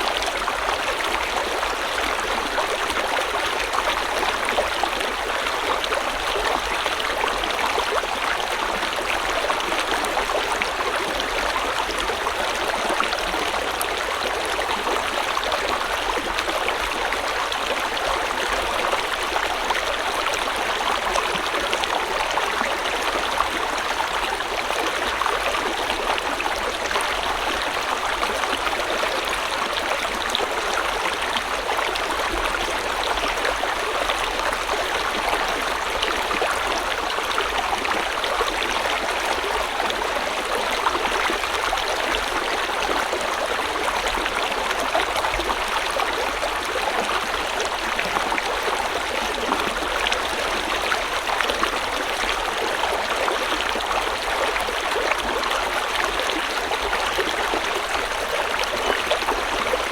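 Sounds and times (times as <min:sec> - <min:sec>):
stream rushing and bubbling: 0:00.0 - 0:59.9.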